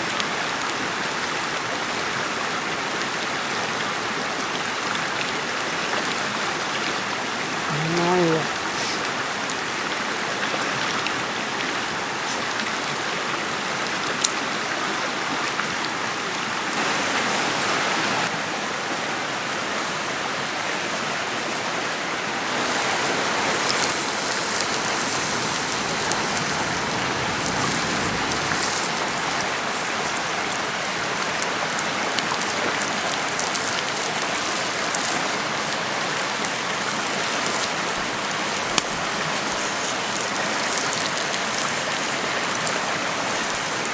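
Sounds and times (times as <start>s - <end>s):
rushing water: 0.0s - 43.9s.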